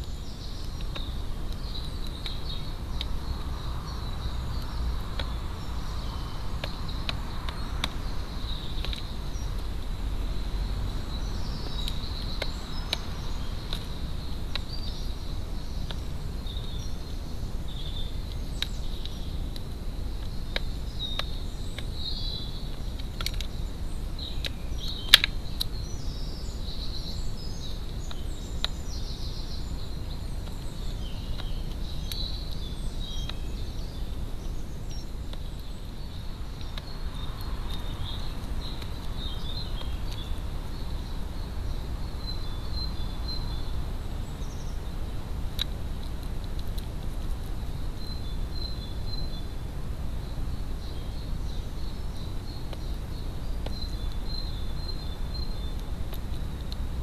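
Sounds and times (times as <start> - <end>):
low outdoor rumble: 0.0 - 57.0
songbirds chirping: 0.0 - 57.0.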